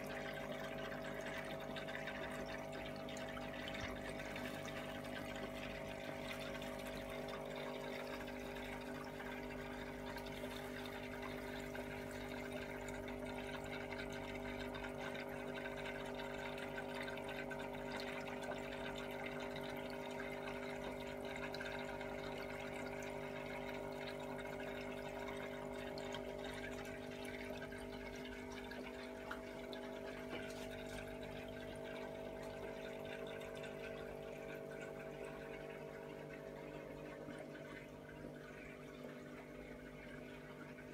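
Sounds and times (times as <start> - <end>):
aquarium filter motor hum: 0.0 - 40.9
water trickling: 0.0 - 40.9.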